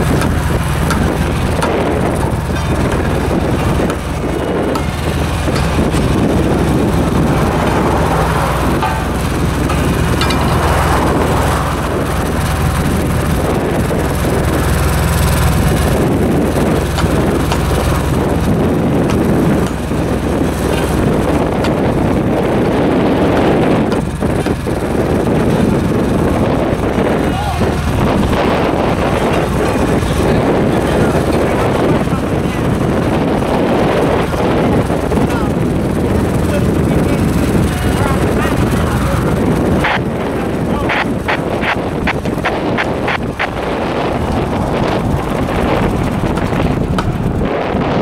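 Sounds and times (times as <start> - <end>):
drum roller engine running: 0.0 - 48.0.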